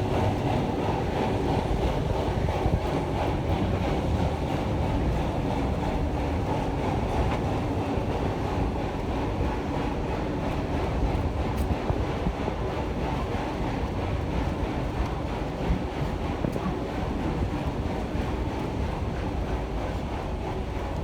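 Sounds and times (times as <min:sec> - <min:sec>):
train rolling along track: 0:00.0 - 0:21.0.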